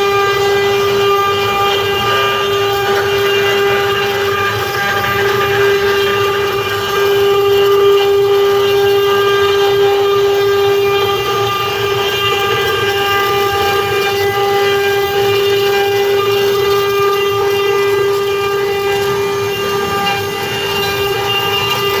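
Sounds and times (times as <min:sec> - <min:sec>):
machine rumble: 0:00.0 - 0:22.0
router spindle high whine: 0:00.0 - 0:22.0.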